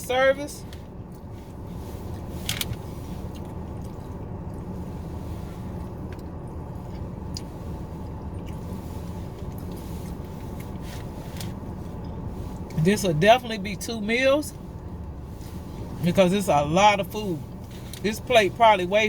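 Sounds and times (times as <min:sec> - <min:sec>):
car cabin hum: 0:00.0 - 0:19.0.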